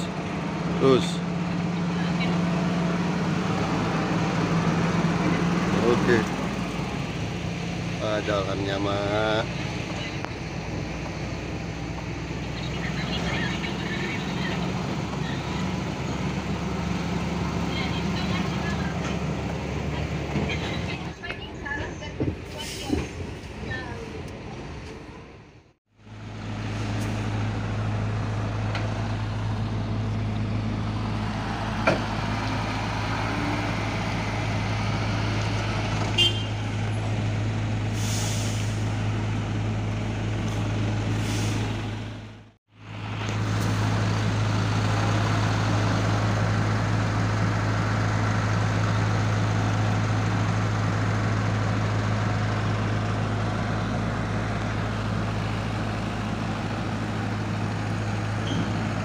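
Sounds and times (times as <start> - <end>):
diesel truck engine idling: 0.0 - 22.8, 25.5 - 59.0.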